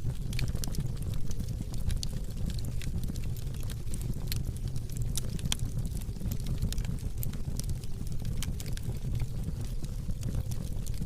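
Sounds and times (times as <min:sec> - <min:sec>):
low rumble of burning: 0:00.0 - 0:11.0
wood fire pops and snaps: 0:00.0 - 0:11.0.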